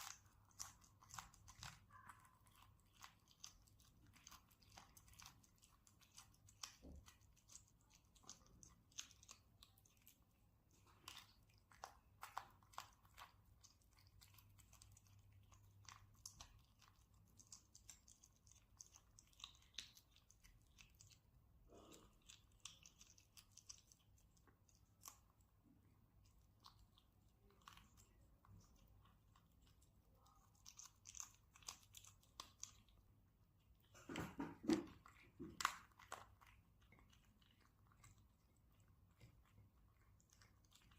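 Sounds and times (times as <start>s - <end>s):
kitten chewing and crunching: 0.0s - 40.9s.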